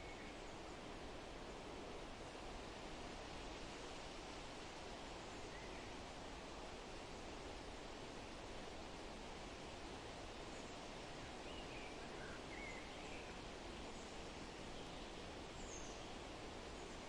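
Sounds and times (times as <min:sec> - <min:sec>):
wind in leaves: 0:00.0 - 0:17.0.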